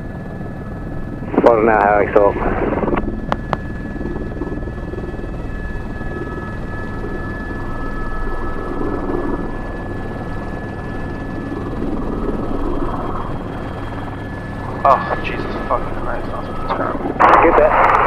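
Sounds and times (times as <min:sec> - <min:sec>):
helicopter turbine and rotor noise: 0:00.0 - 0:18.0
high whine: 0:01.2 - 0:18.0.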